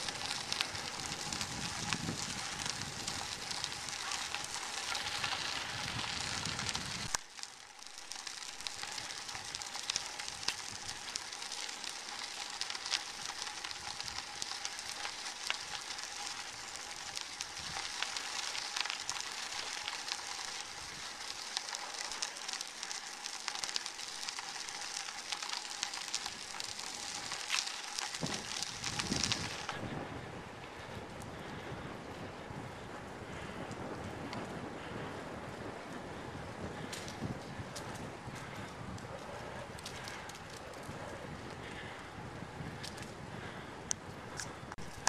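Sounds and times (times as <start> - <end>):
bicycle tyres rolling on pavement: 0.0 - 45.0.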